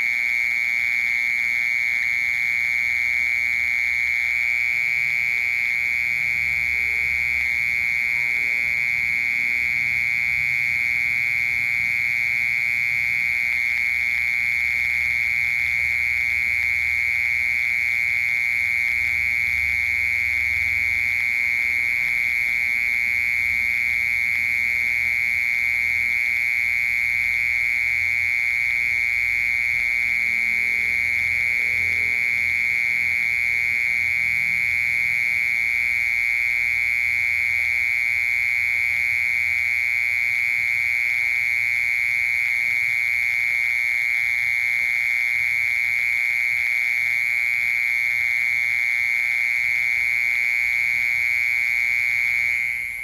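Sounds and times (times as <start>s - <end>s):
cricket trilling: 0.0s - 53.0s.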